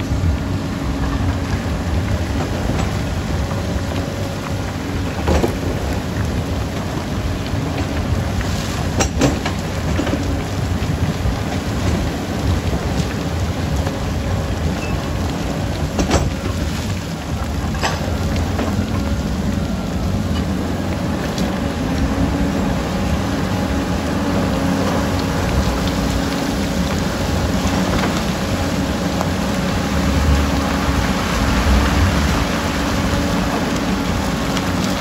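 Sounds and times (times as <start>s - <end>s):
heavy diesel machinery rumbling: 0.0s - 35.0s.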